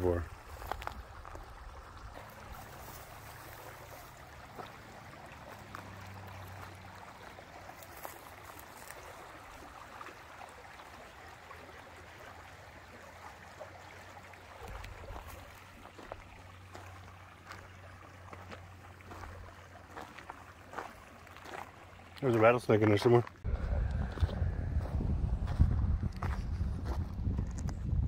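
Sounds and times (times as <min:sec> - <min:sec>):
water rushing along a canal: 0:00.0 - 0:24.7.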